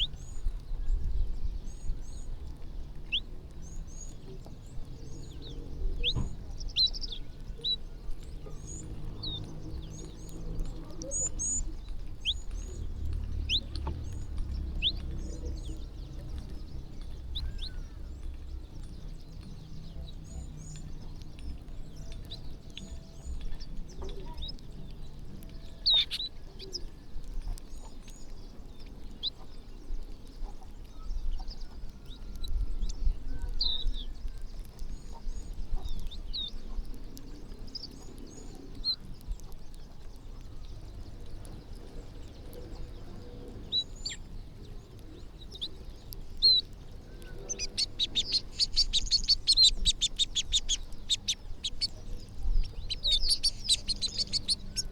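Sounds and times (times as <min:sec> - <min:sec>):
small birds chirping: 0:00.0 - 0:54.9
low rumble: 0:00.2 - 0:30.1, 0:37.2 - 0:54.9.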